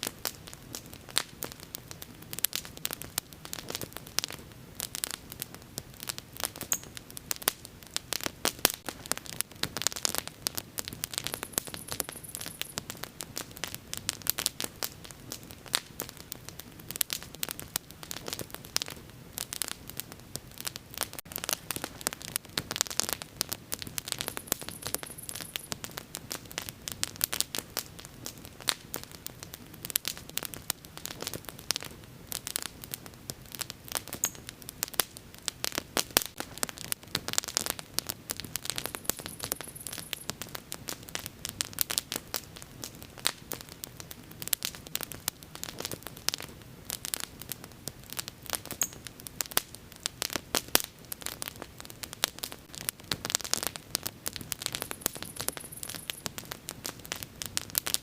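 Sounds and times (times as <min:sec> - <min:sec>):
bonfire crackling: 0:00.0 - 0:58.0.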